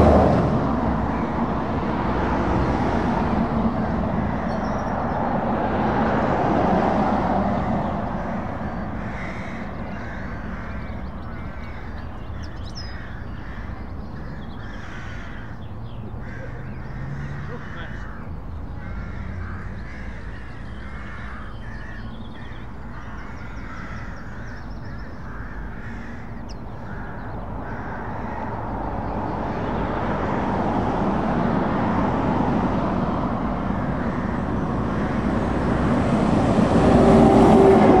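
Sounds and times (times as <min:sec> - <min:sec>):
truck diesel engine passing: 0:00.0 - 0:21.4, 0:26.9 - 0:38.0
distant traffic: 0:00.0 - 0:38.0
crows cawing: 0:03.5 - 0:32.2, 0:33.4 - 0:38.0.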